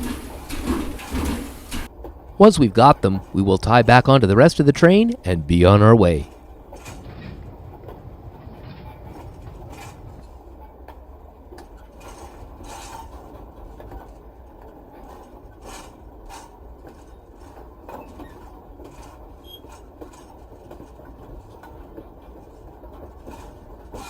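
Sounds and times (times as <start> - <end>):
clanks and clicks: 0.0 - 24.0
model train rumble: 0.0 - 24.0.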